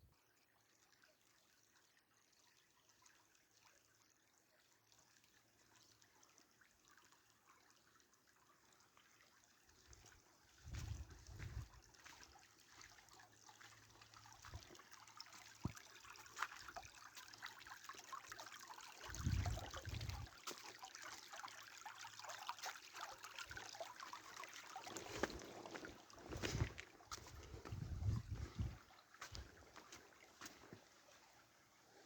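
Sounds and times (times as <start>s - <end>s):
rainwater trickling and dripping: 0.2s - 32.0s.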